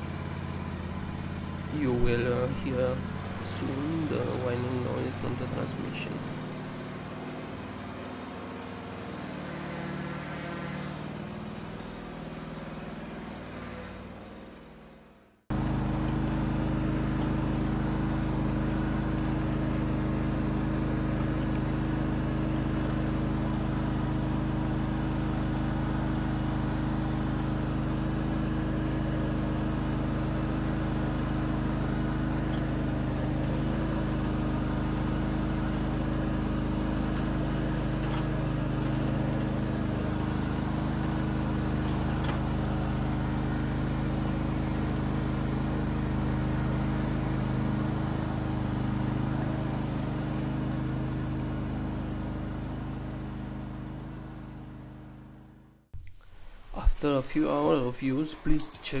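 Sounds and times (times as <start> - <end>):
lawn tractor engine running: 0.0 - 14.9, 15.5 - 55.8, 56.4 - 59.0.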